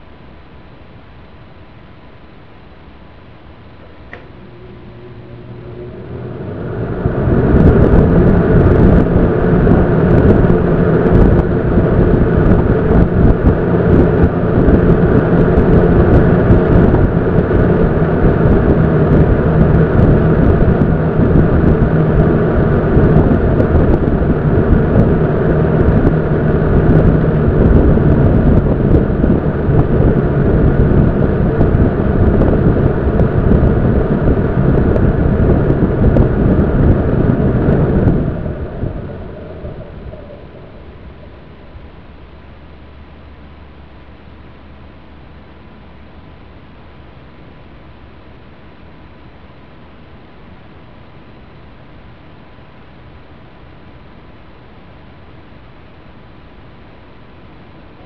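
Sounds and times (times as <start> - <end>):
box fan running: 0.0 - 58.0.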